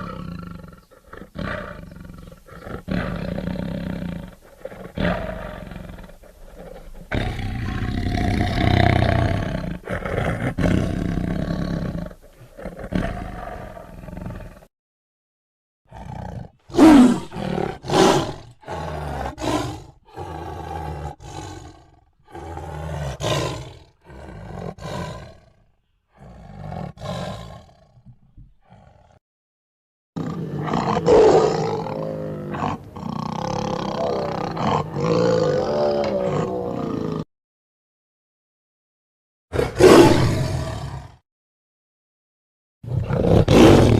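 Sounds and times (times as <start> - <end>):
tiger roaring: 0.0 - 14.7, 15.9 - 28.0, 28.6 - 29.2, 30.2 - 37.2, 39.5 - 41.2, 42.9 - 43.9.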